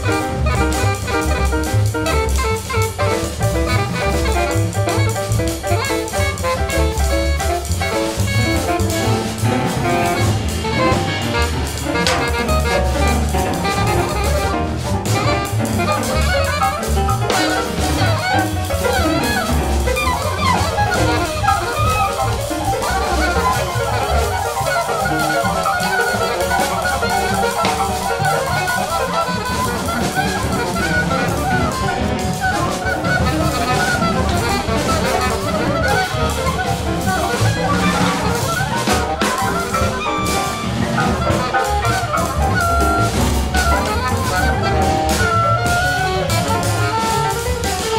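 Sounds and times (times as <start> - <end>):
free jazz quartet: 0.0 - 47.9.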